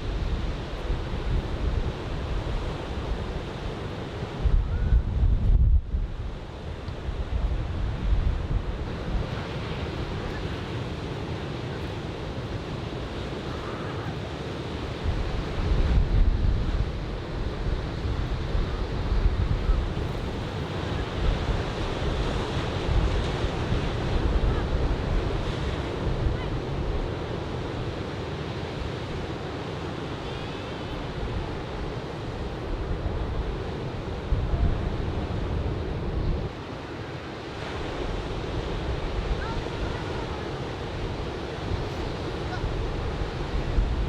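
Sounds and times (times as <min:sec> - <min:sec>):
wind buffeting microphone: 0:00.0 - 0:28.1, 0:30.8 - 0:36.6, 0:37.5 - 0:44.0
ocean surf breaking on beach: 0:00.0 - 0:44.0.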